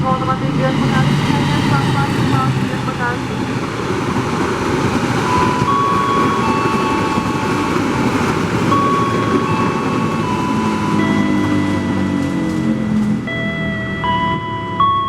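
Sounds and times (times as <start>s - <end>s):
train wheels rumbling on rail: 0.0s - 14.7s
train whining tones: 0.0s - 15.0s.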